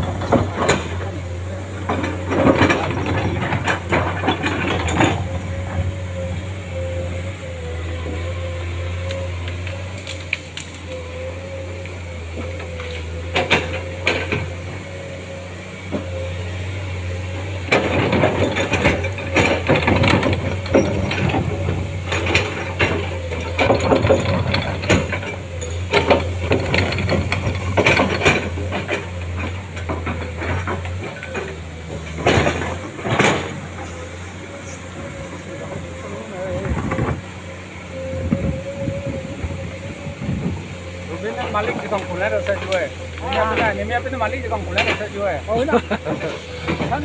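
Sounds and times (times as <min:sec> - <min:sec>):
engine whine: 0:00.0 - 0:47.0
excavator diesel engine humming: 0:00.0 - 0:47.0.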